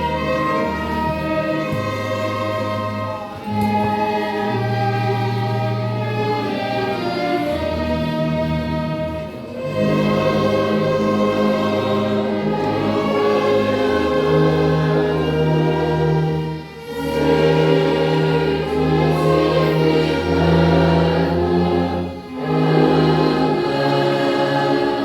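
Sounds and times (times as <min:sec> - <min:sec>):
ensemble playing a slow hymn: 0:00.0 - 0:25.0.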